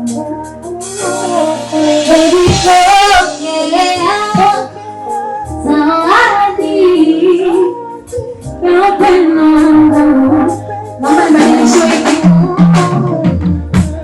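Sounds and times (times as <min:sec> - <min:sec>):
live band playing: 0:00.0 - 0:14.0
woman singing: 0:00.0 - 0:14.0.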